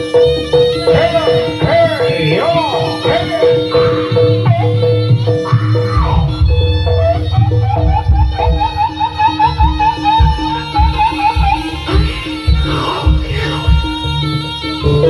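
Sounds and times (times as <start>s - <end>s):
pitched percussion note: 0.0s - 15.0s
shrill melody with trill: 0.0s - 15.0s
low drum beats: 0.7s - 15.0s.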